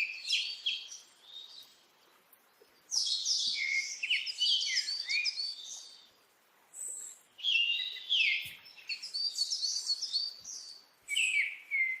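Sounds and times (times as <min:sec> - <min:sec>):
birdsong chirps and whistles: 0:00.0 - 0:12.0.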